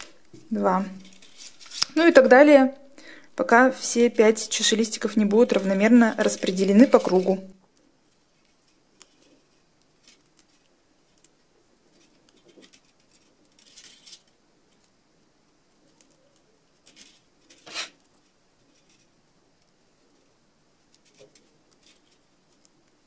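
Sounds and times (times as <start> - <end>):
scratchy rustles of wire: 0.0 - 23.0.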